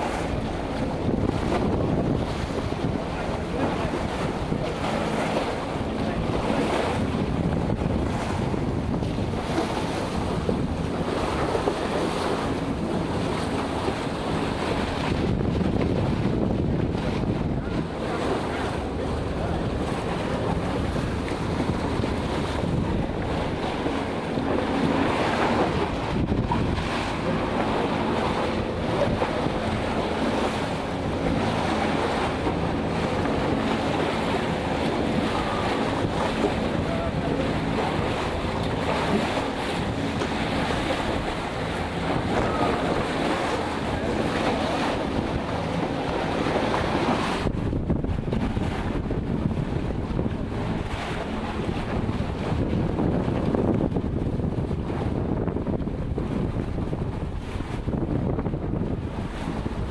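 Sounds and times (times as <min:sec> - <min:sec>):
water rushing along hulls: 0:00.0 - 0:59.9
wind buffeting microphone: 0:00.0 - 0:59.9.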